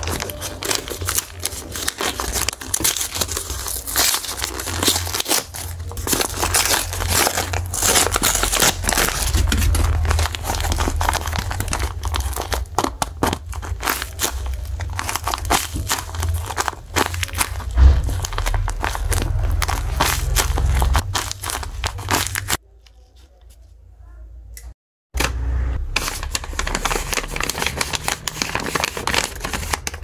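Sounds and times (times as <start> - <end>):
paper tearing: 0.0 - 22.6, 25.8 - 30.0
paper crumpling and crinkling: 0.0 - 23.8, 25.8 - 30.0.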